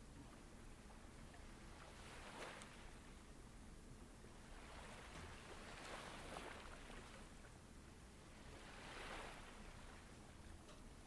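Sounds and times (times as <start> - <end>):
faint ocean surf: 0.0 - 11.0.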